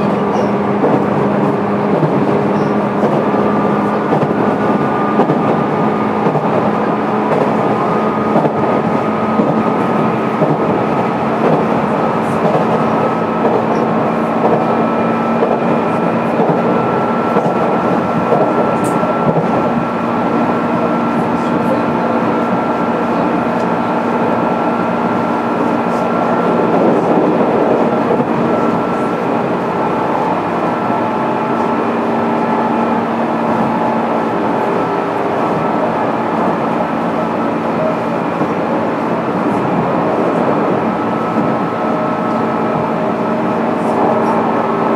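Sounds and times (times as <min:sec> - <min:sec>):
wheels rumbling on rail: 0:00.0 - 0:44.9.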